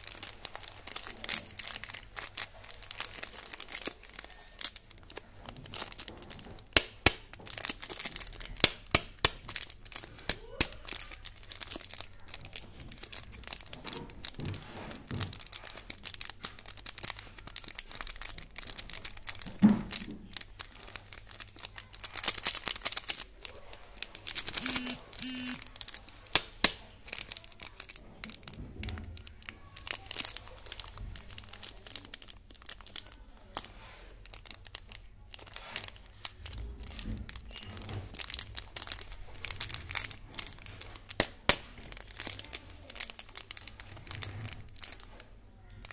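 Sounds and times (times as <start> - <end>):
plastic candy wrappers crinkling: 0.0 - 45.9.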